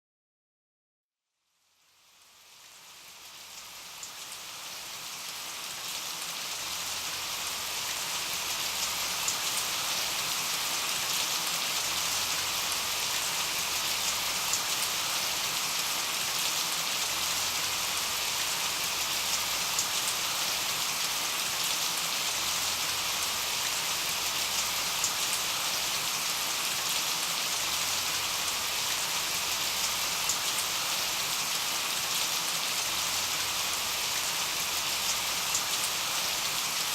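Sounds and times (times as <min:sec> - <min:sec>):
rain pattering on surfaces: 0:02.5 - 0:36.9.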